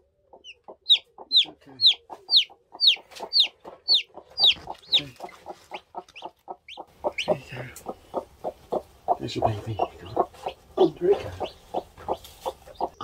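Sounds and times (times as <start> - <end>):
hen clucking: 0.0 - 13.0
chick peeping loudly: 0.3 - 13.0.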